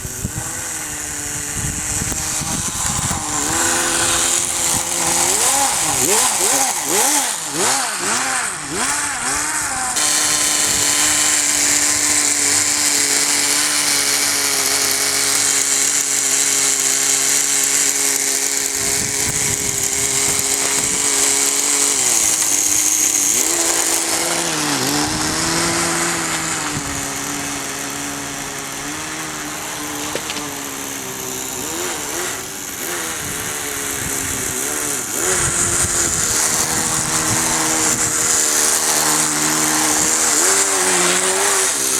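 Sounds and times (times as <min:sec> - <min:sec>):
small nitro engine running: 0:00.0 - 0:41.9.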